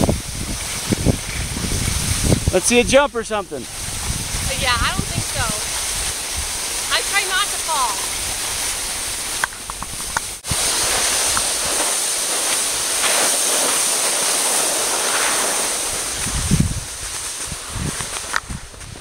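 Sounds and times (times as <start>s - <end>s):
skis hissing over snow: 0.0s - 19.0s
wind rushing over microphone: 0.0s - 19.0s.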